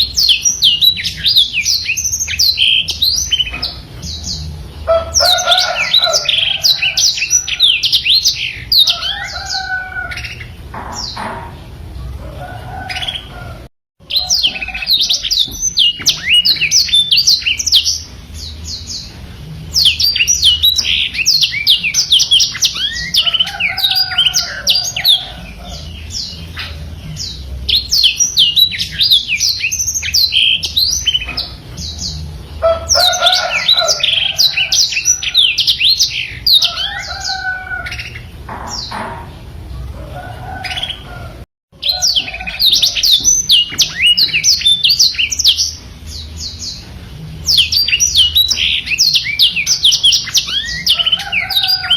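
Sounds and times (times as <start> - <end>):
canary singing warble: 0.0 - 51.9.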